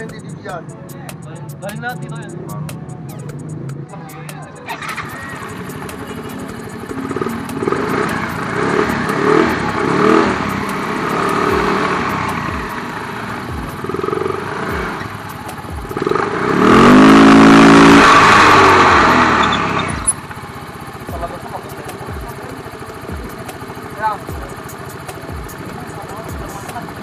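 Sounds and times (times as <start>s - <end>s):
scooter engine revving: 4.6s - 27.0s.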